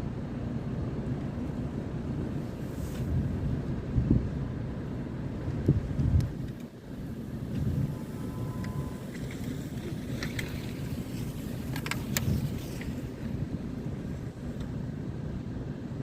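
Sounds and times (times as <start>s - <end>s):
wind buffeting microphone: 2.6s - 16.0s.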